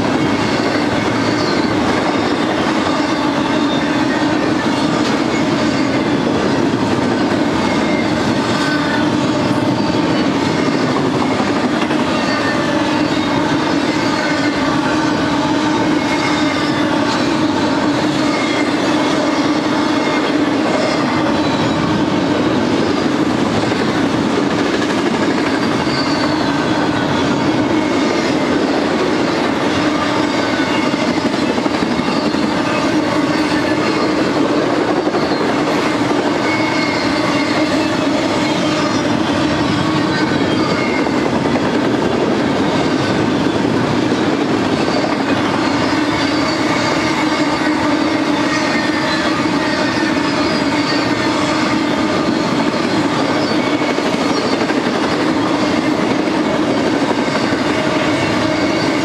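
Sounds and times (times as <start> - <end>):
high wheel squeals: 0.0 - 59.0
steel wheels rumbling on rails: 0.0 - 59.0.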